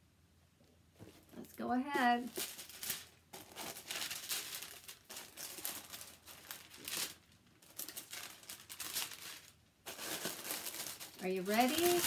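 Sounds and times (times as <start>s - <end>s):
tissue paper rustling: 1.0s - 12.0s.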